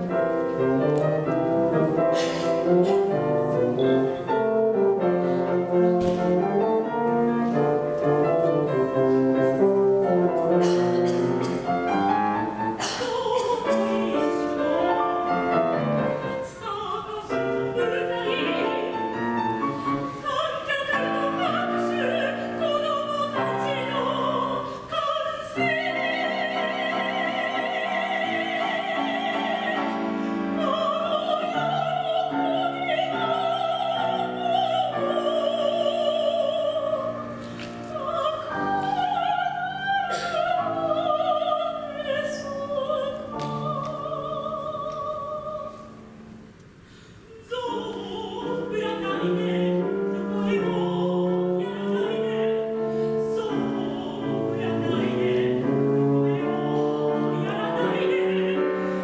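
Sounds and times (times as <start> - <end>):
classical solo singing voice: 0.0 - 59.0
piano accompaniment: 0.0 - 59.0.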